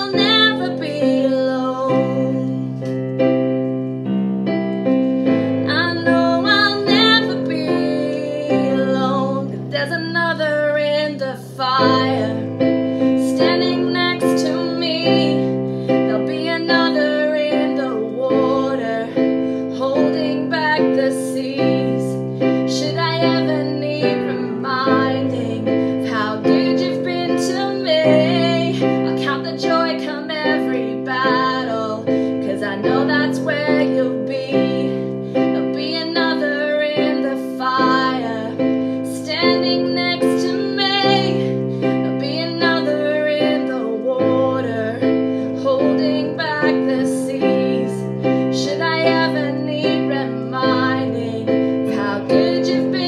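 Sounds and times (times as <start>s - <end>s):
woman singing: 0.0s - 3.4s, 5.2s - 53.0s
piano keyboard chords: 0.0s - 53.0s.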